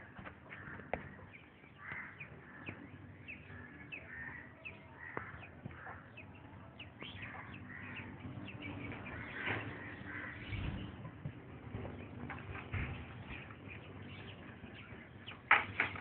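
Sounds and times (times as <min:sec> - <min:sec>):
flock of small birds chirping: 0:00.0 - 0:16.0.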